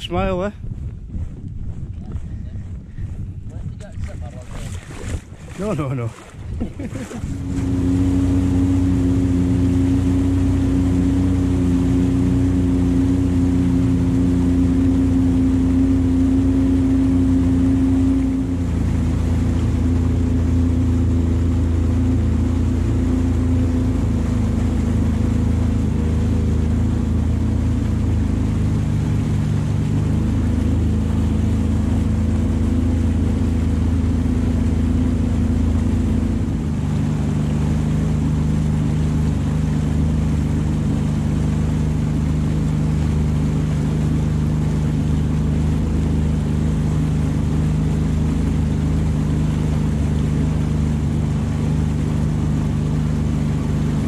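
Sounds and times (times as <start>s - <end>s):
jet ski engine running: 0.0s - 54.0s
water rushing past hull: 0.0s - 54.0s.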